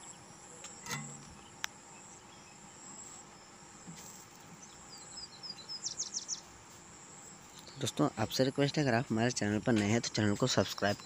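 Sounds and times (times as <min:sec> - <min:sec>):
thin high whine: 0:00.0 - 0:11.0.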